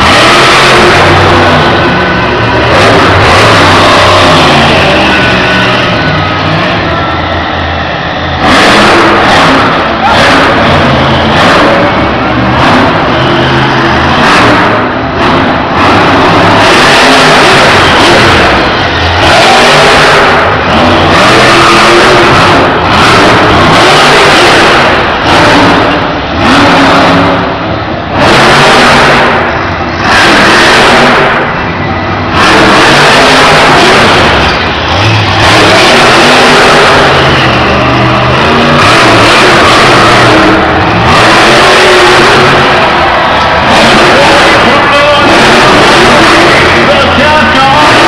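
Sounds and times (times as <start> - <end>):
truck engines revving hard: 0.0 - 48.0.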